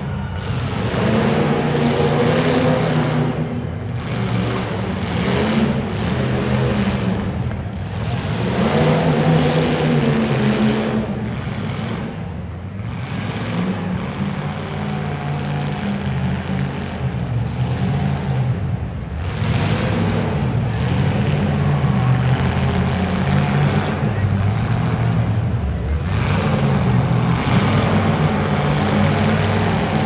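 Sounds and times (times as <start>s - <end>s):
car engines revving loudly: 0.0s - 30.0s.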